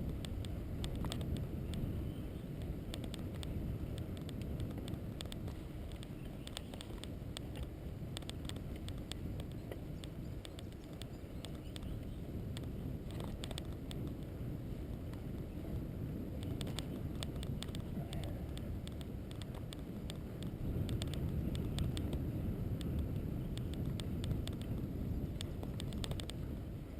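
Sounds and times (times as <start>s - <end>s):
sharp clicks and ticks: 0.0s - 1.9s, 2.6s - 14.3s, 16.3s - 26.5s
wheels rumbling on rough road: 0.0s - 26.9s.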